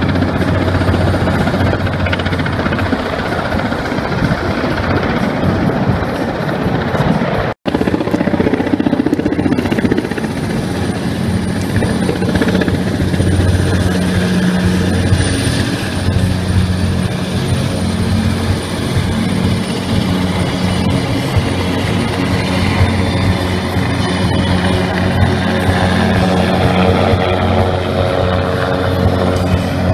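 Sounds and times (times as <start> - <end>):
helicopter rotor throbbing: 0.0 - 29.9.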